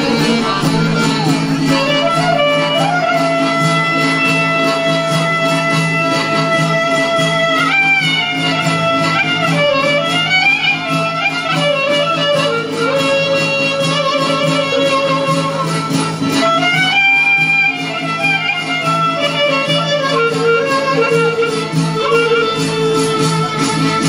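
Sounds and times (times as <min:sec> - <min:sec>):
folk music ensemble: 0:00.0 - 0:24.0.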